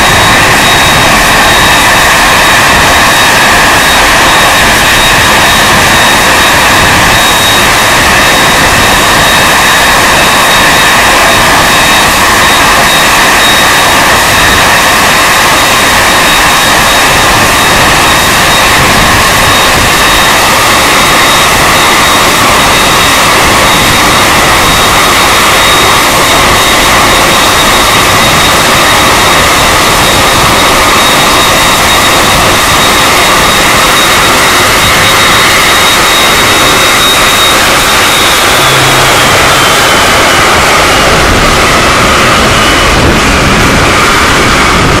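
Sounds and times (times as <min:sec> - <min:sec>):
jet engines idling: 0:00.0 - 0:45.0.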